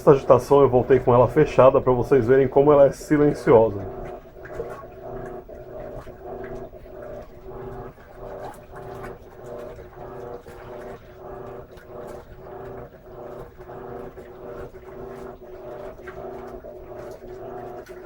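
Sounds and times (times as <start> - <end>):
washing machine motor pulsing: 0.0 - 18.0.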